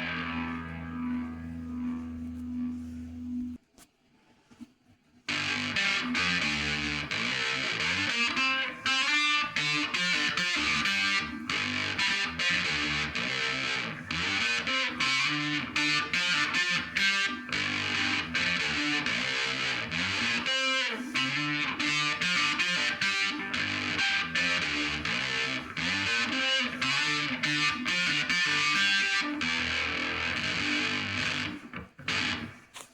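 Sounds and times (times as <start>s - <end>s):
distorted electric guitar riff: 0.0s - 3.6s, 5.3s - 32.6s.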